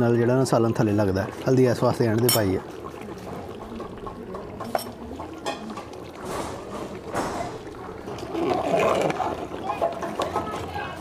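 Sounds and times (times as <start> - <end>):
food sizzling and bubbling in pot: 0.0 - 11.0
spatula stirring: 1.4 - 11.0.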